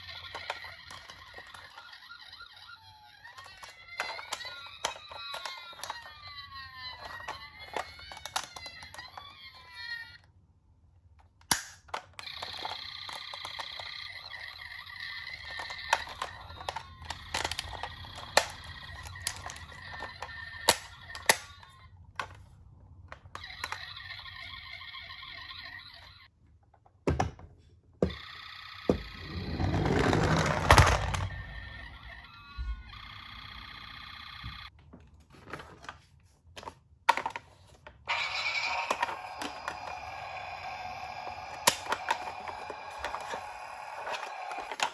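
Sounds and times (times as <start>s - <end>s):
toy ambulance electronic siren: 0.0s - 10.2s, 12.2s - 21.8s, 23.3s - 26.2s, 28.0s - 34.7s, 38.1s - 44.9s.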